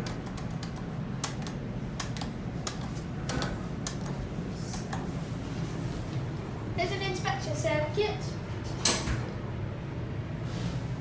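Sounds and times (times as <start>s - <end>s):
elevator hum: 0.0s - 11.0s.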